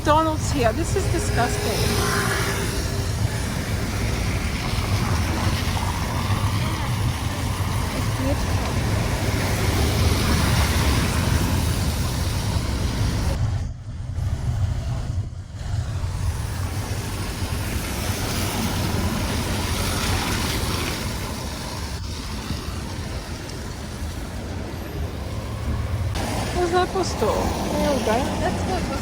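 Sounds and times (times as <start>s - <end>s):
traffic hiss on wet road: 0.0s - 13.4s, 16.0s - 29.0s
engine and tyre rumble: 0.0s - 29.0s.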